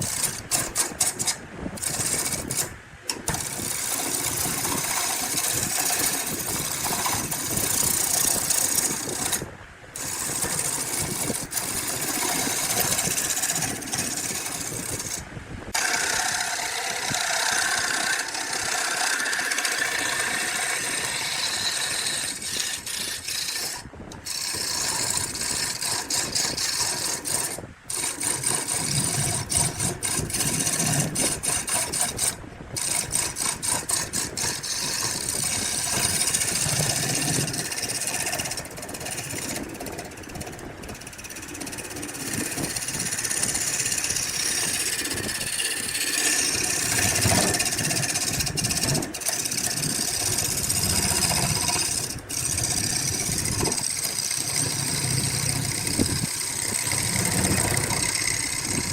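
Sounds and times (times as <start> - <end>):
quick repeated tool strokes: 0.0 - 58.9
woodworking tools hissing: 0.0 - 58.9.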